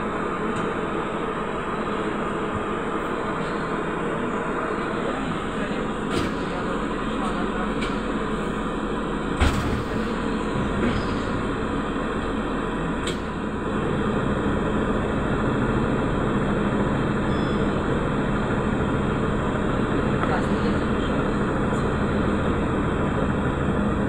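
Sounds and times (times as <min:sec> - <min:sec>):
trolleybus interior hum: 0:00.0 - 0:24.0.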